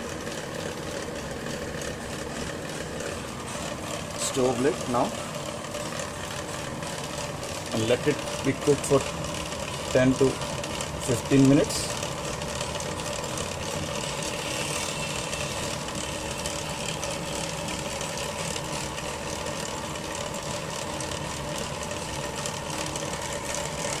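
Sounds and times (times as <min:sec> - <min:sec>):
pot boiling with bubbling: 0:00.0 - 0:24.0.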